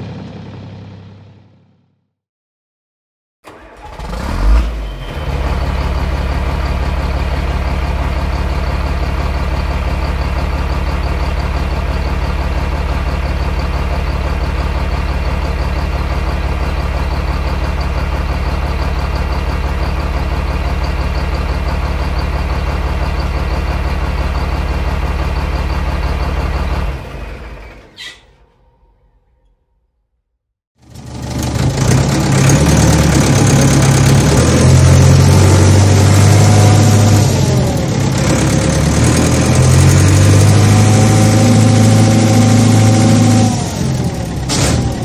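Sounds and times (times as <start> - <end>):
large vehicle engine idling: 0.0 - 1.7, 4.8 - 29.4, 30.8 - 45.0.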